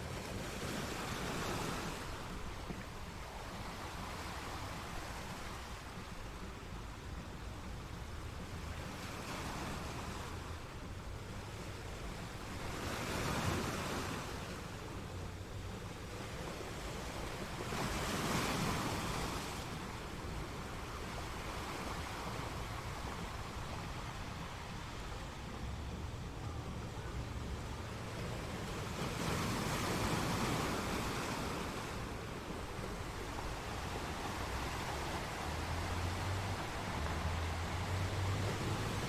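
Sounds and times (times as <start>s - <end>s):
ocean surf rushing: 0.0s - 39.0s.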